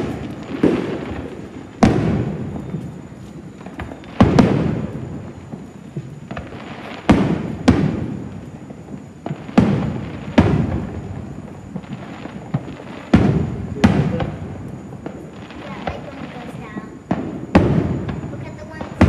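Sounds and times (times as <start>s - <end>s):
distant firework booms: 0.0s - 19.0s.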